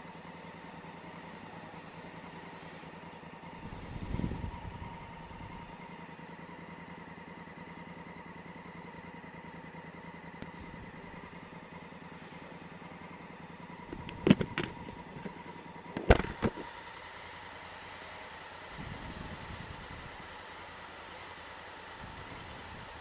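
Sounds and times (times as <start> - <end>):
motorcycle engine idling: 0.0 - 23.0
thin steady whine: 0.0 - 23.0.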